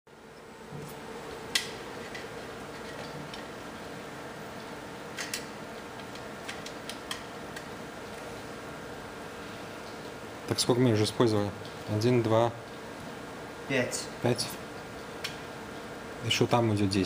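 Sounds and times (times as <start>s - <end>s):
steady background hum: 0.1s - 17.0s.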